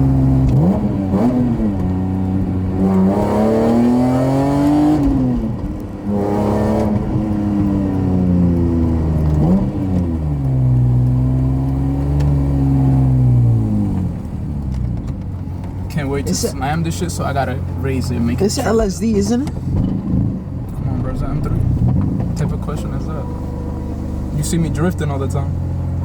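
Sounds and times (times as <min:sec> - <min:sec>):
car engine accelerating and upshifting: 0:00.0 - 0:26.0.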